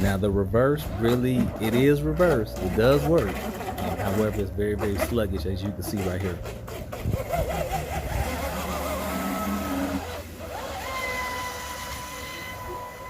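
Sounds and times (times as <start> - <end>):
rc boat electric motor whining: 0.0 - 13.0.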